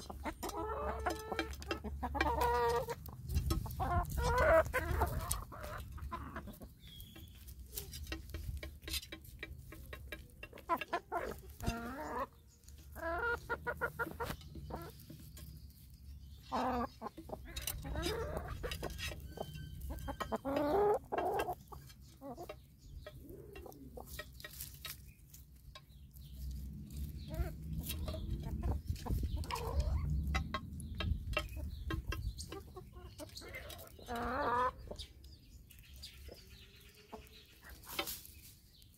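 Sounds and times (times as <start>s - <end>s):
hens clucking: 0.0s - 38.9s.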